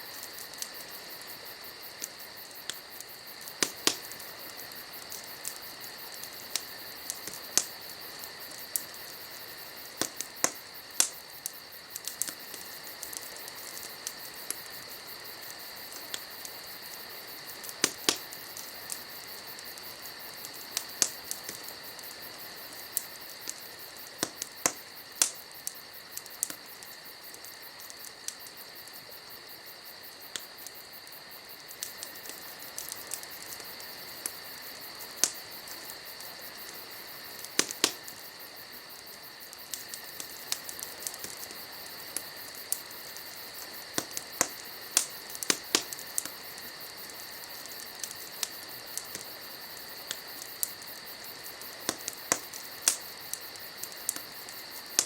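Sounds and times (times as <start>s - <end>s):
fire popping: 0.0s - 55.0s
high insect chorus: 0.0s - 55.0s
wood fire crackling: 0.0s - 55.0s.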